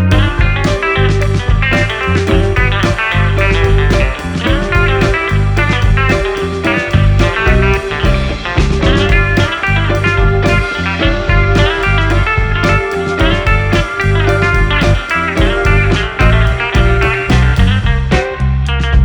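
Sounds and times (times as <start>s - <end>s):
blues-rock music with guitar: 0.0s - 19.0s.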